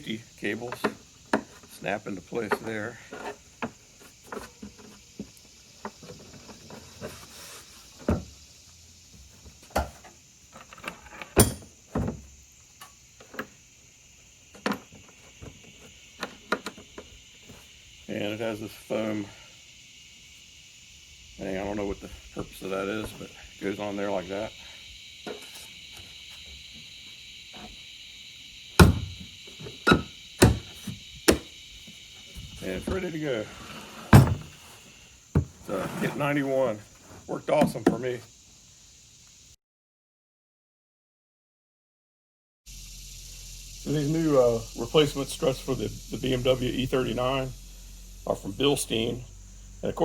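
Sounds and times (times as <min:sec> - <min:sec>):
insect chirring: 0:00.0 - 0:39.6, 0:42.7 - 0:50.0.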